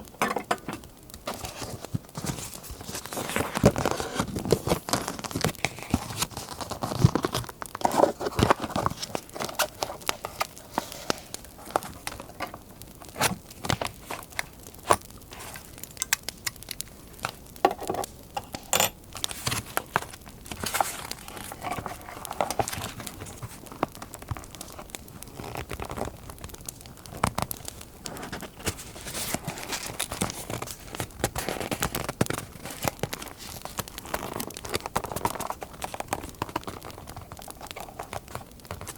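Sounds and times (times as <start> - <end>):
fire crackling: 0.0 - 38.9
paper crinkling and tearing: 1.1 - 18.2, 19.1 - 38.9.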